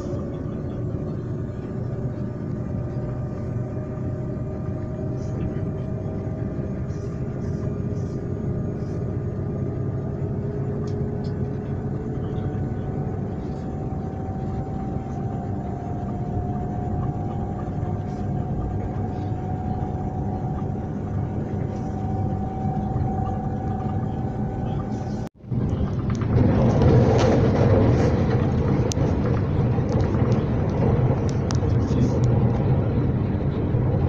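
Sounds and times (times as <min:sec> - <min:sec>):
faint humming tones: 0:00.0 - 0:34.0
train rumbling: 0:00.0 - 0:34.0.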